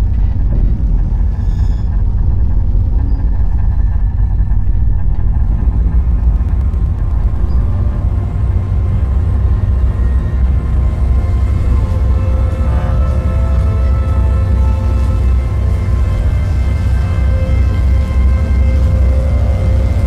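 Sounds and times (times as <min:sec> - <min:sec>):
low electronic drone: 0:00.0 - 0:20.0.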